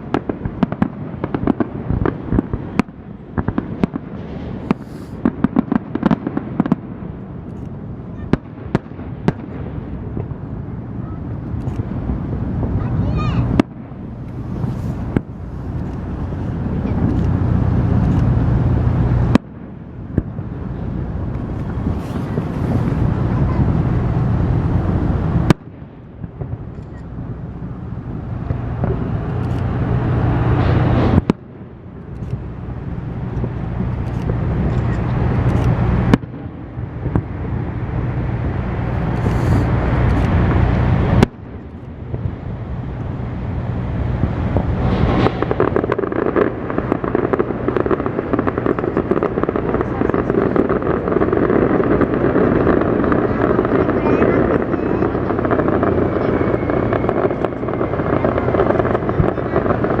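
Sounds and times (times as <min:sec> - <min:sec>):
sharp firework crack: 0:00.0 - 0:43.1, 0:43.9 - 1:00.0
distant fireworks rumble: 0:00.0 - 1:00.0
wind on microphone: 0:00.0 - 1:00.0.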